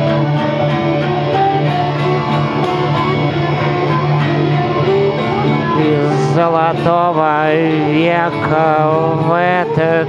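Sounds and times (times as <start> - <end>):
acoustic and electric guitars: 0.0 - 10.0.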